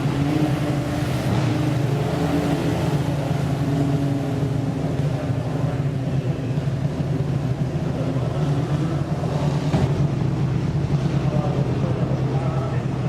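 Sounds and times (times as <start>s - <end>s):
race car engine droning: 0.0s - 13.0s.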